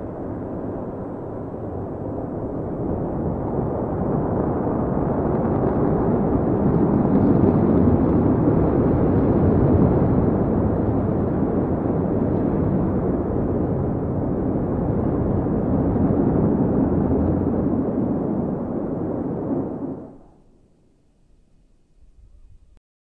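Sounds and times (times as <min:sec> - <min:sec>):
rocket engine rumble: 0:00.0 - 0:20.8.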